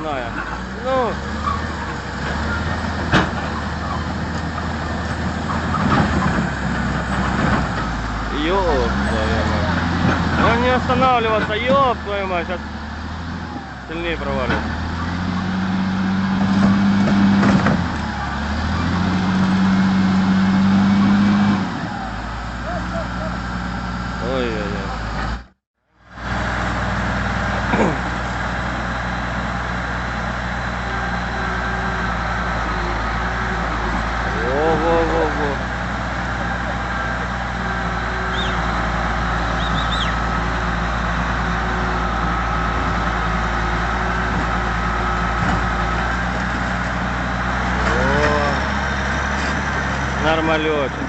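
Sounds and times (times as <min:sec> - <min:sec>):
truck engine under heavy load: 0:00.0 - 0:51.0.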